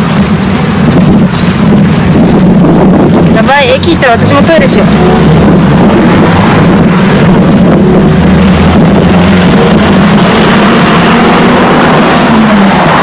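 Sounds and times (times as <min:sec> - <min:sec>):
passing road traffic rumbling: 0:00.0 - 0:13.0
wind on microphone: 0:00.0 - 0:13.0.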